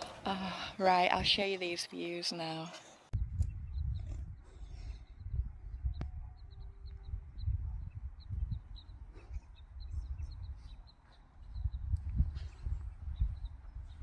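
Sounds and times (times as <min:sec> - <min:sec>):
wind buffeting microphone: 0:00.0 - 0:01.5, 0:03.1 - 0:14.0.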